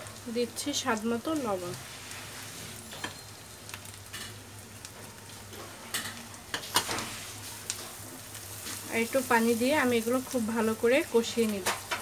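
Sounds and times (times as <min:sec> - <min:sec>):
onions and spices sizzling in oil: 0:00.0 - 0:12.0.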